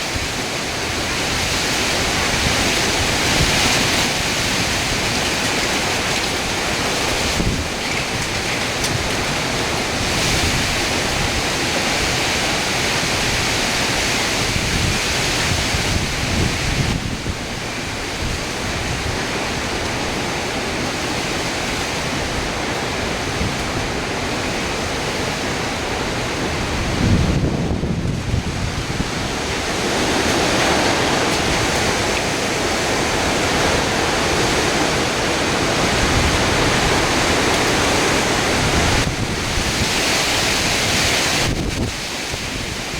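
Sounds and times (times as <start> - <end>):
wind and heavy rain roaring: 0.0 - 42.9
wind buffeting microphone: 0.0 - 42.9.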